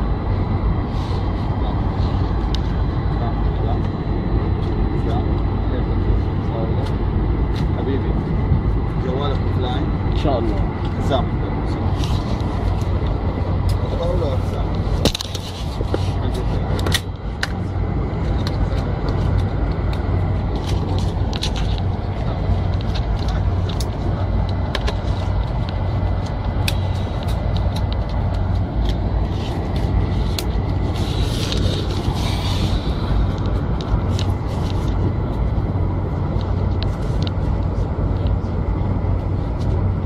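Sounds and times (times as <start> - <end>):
airplane cabin drone: 0.0 - 40.0
low hum: 0.0 - 40.0.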